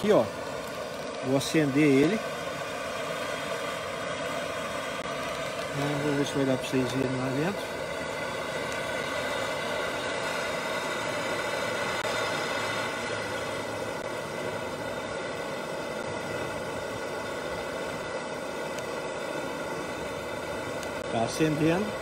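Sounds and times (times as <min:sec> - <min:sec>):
propane torch hissing: 0:00.0 - 0:22.0.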